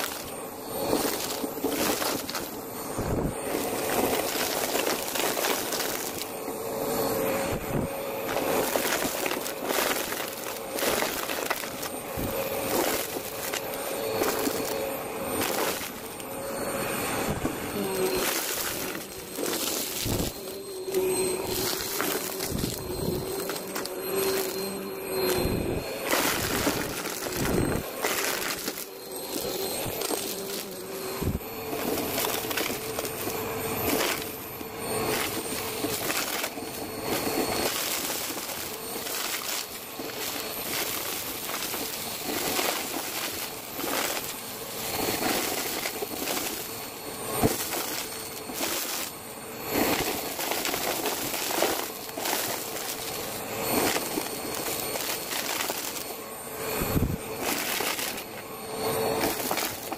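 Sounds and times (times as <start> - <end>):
debris rattling in vacuum: 0.0 - 59.9
vacuum cleaner motor: 0.0 - 59.9.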